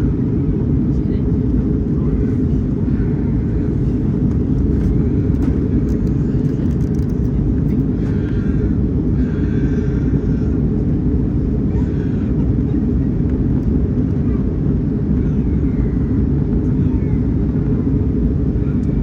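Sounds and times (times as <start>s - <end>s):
jet airliner engine rumble: 0.0s - 19.0s.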